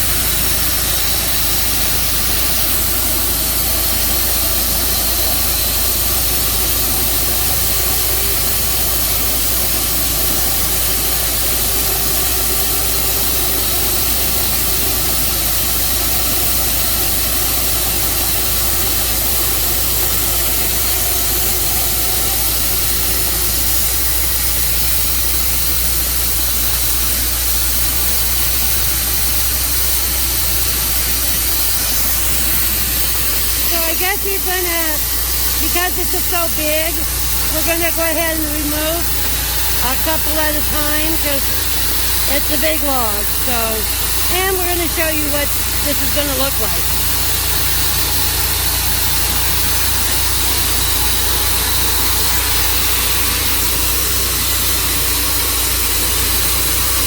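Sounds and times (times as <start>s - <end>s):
sawmill engine and blade droning: 0.0s - 57.0s.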